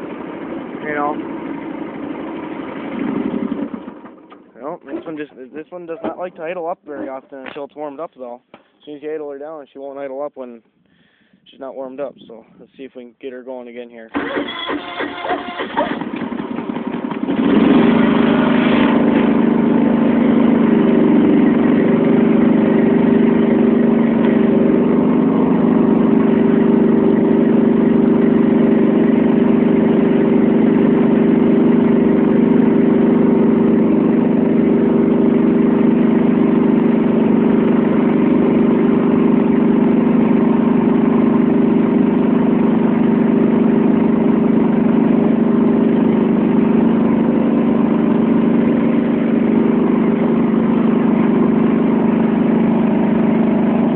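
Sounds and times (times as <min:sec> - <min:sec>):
lawn tractor engine starting and running: 0:00.0 - 0:05.4, 0:14.1 - 0:53.9.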